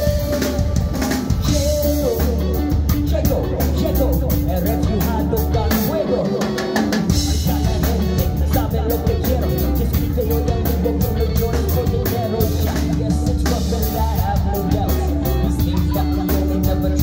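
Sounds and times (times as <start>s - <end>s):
drum kit: 0.0s - 17.0s
electric bass: 0.0s - 17.0s
electric guitar: 0.0s - 17.0s
keyboards: 0.0s - 17.0s.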